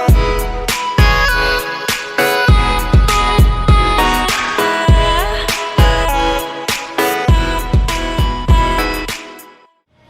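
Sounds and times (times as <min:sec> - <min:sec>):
electronic pop music: 0:00.0 - 0:09.6.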